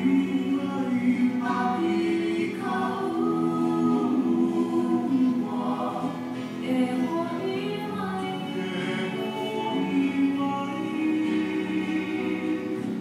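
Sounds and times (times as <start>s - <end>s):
voices singing in harmony: 0.0s - 13.0s.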